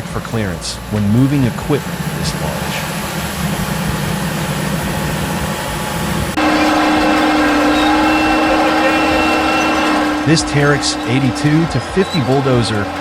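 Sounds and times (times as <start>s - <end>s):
diesel machinery rumbling: 0.0s - 13.0s
high-pitched engine drone: 0.0s - 13.0s.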